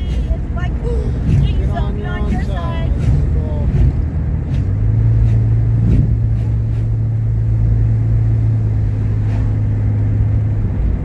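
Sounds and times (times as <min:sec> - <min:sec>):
road rumble: 0:00.0 - 0:11.0
vehicle engine hum: 0:00.0 - 0:11.0.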